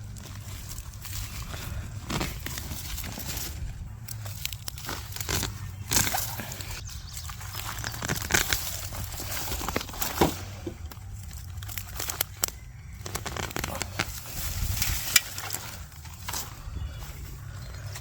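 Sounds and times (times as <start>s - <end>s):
rustling and crackling leaves: 0.0s - 18.0s.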